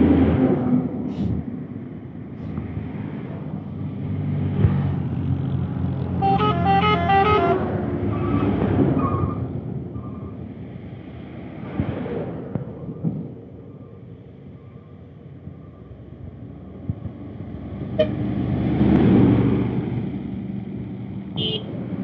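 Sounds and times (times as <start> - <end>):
heavy truck diesel engines: 0.0 - 22.0.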